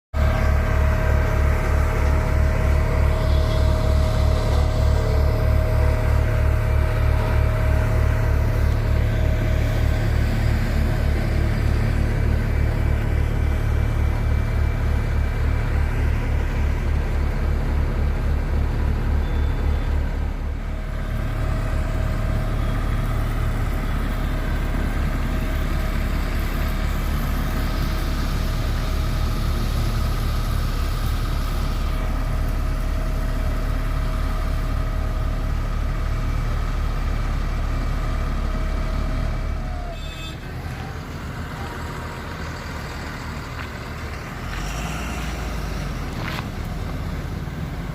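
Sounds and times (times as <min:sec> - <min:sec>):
heavy diesel engine throbbing: 0:00.2 - 0:47.9.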